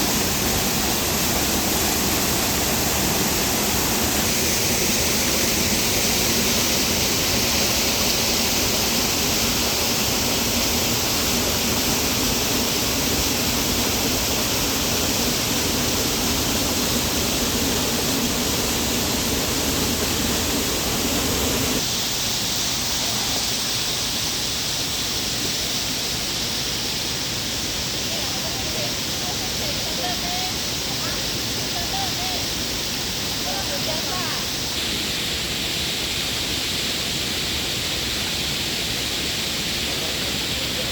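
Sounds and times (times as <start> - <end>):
river water: 0.0 - 40.9
small waterfall rushing: 0.0 - 40.9.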